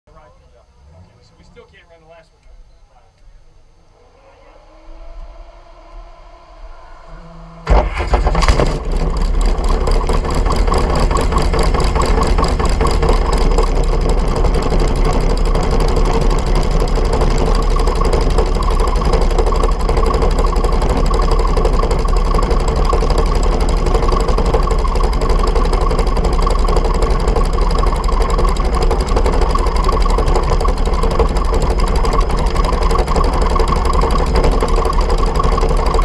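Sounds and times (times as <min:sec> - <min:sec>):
dragster engine idling: 0:00.1 - 0:36.0.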